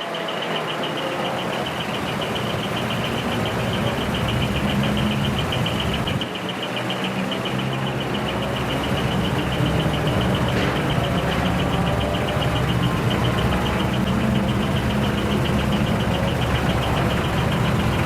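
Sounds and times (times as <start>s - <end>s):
heavy truck engine rumbling: 0.0s - 18.0s
rapid high-pitched pulsing: 0.0s - 18.0s.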